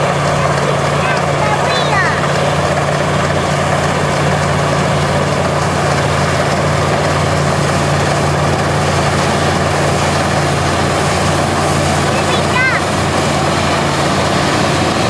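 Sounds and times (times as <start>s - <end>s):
combine harvester engine drone: 0.0s - 15.0s
threshing machinery clatter: 0.0s - 15.0s.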